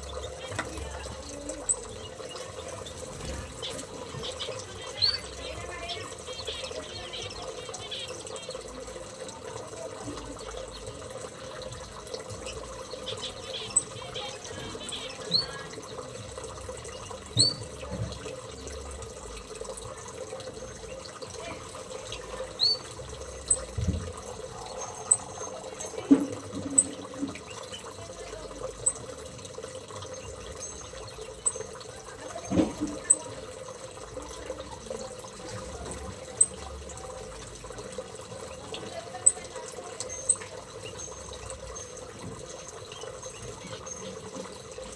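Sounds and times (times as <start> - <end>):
birds chirping: 0.0 - 44.9
running water: 0.0 - 44.9.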